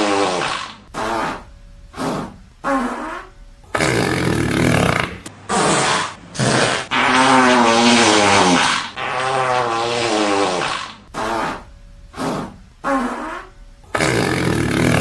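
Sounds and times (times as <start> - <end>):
farts: 0.0 - 1.4, 2.0 - 11.6, 12.2 - 15.0.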